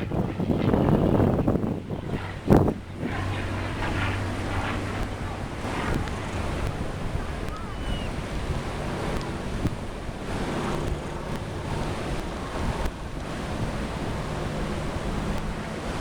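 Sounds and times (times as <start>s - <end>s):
surf rushing: 0.0s - 16.0s
wind buffeting microphone: 0.0s - 16.0s.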